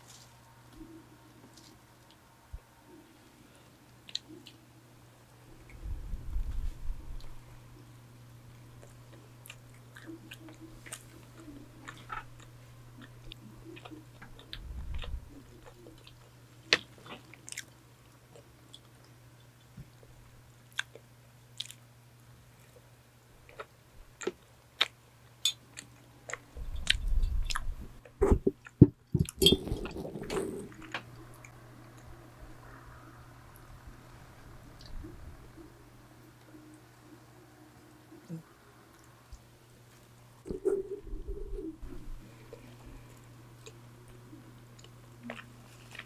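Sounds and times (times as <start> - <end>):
electric fan humming: 0.0 - 20.6, 25.6 - 46.0.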